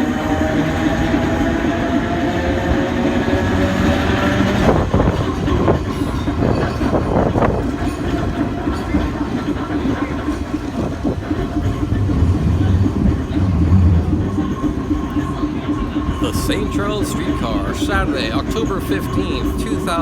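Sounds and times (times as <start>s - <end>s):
streetcar running on rails: 0.0s - 20.0s
wheels clacking: 0.0s - 20.0s.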